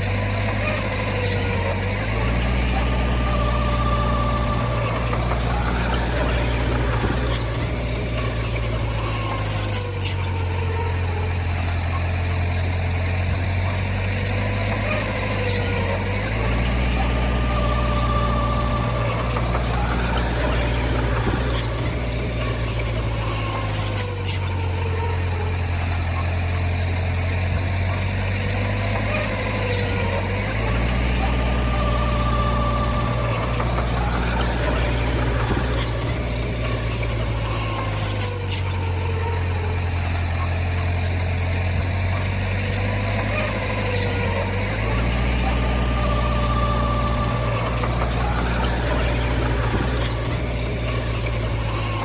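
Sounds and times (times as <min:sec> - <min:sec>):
diesel machinery engine rumble: 0:00.0 - 0:52.0
faint whine: 0:00.0 - 0:52.0.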